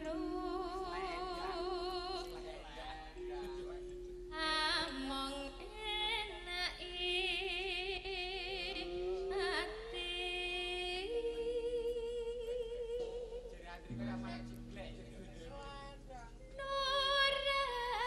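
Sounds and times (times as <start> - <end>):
woman singing through microphone: 0.0 - 13.6, 15.6 - 18.0.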